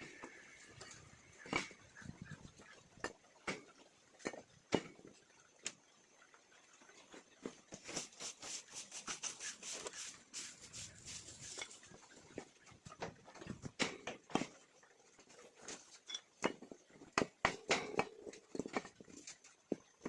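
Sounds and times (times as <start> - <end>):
chickens pecking and scratching: 0.0 - 20.0.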